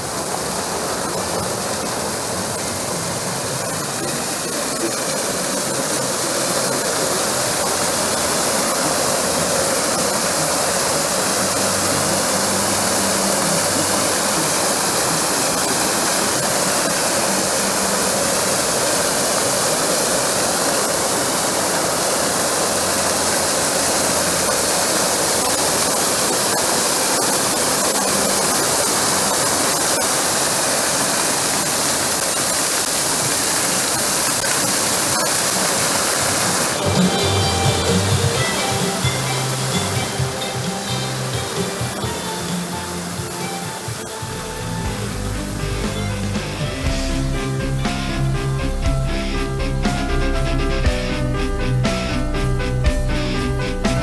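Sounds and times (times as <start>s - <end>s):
steady rushing noise: 0.0s - 54.0s.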